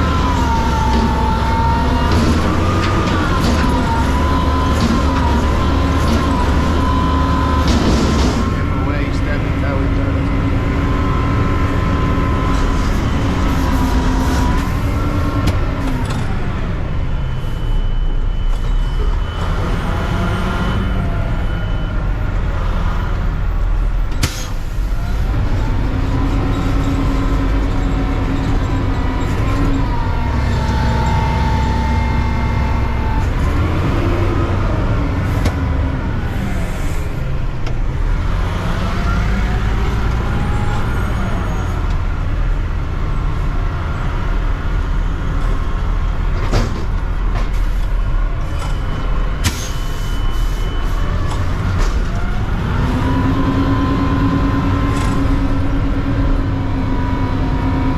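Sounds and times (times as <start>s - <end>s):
garbage truck engine rumbling: 0.0s - 57.9s.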